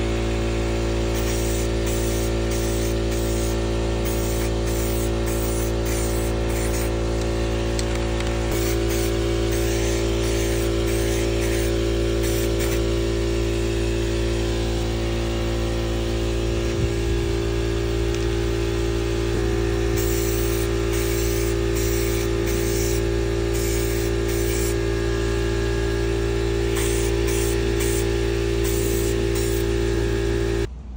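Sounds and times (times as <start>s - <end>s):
steady low hum: 0.0s - 30.9s
spray-paint can hissing: 0.7s - 14.5s, 17.4s - 24.8s, 26.0s - 29.9s.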